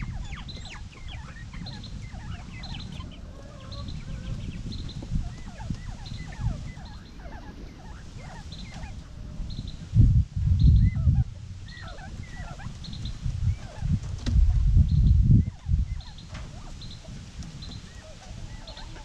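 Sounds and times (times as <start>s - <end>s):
low steady rumble: 0.0s - 18.8s
quail chirping and peeping: 0.0s - 19.0s.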